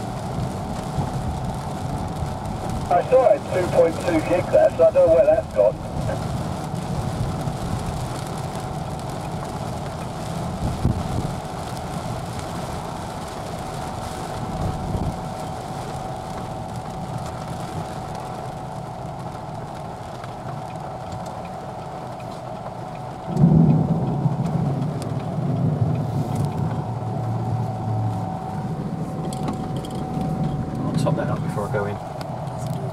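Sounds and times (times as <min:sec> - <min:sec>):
low rumble: 0:00.0 - 0:32.9
rain on a car: 0:00.0 - 0:32.9
tyre noise on wet road: 0:00.0 - 0:32.9.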